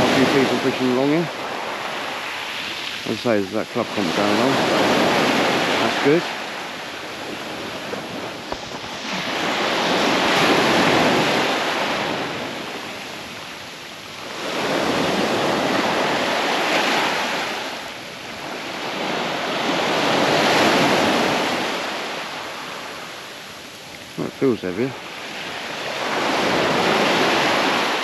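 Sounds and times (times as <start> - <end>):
waves breaking on a beach: 0.0 - 28.0.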